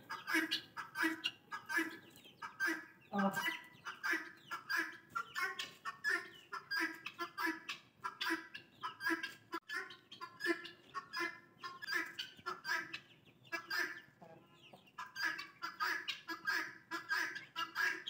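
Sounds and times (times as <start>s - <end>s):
guineafowl calling: 0.0s - 18.0s.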